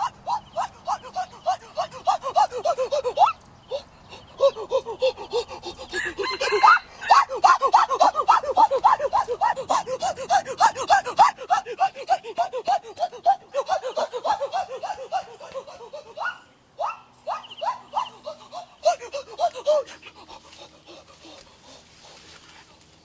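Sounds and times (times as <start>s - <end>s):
person panting hard: 0.0s - 16.3s, 18.2s - 23.0s.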